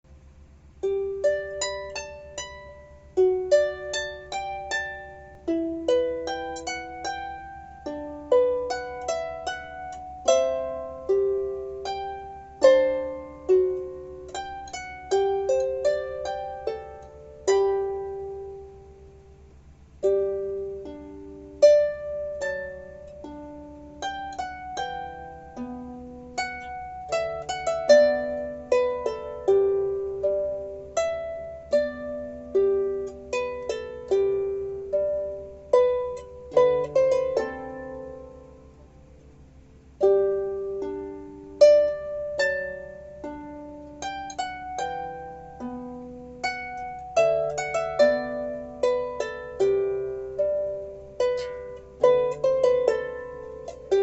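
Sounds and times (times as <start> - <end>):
faint low hum: 0.0 - 54.0
solo harp playing: 0.2 - 54.0.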